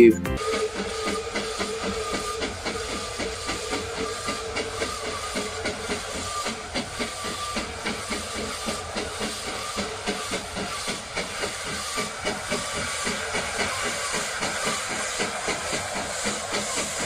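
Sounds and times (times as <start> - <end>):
steam hissing: 0.4 - 17.0
steam locomotive chuffing: 0.4 - 17.0.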